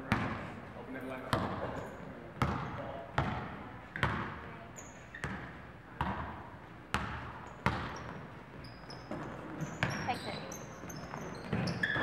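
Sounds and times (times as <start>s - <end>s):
basketball bouncing on gym floor: 0.0s - 0.5s, 1.3s - 1.8s, 2.4s - 12.0s.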